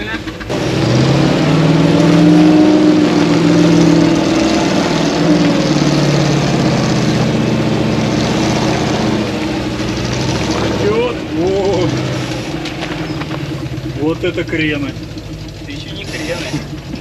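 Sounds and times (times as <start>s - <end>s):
truck engine running under load: 0.0s - 17.0s.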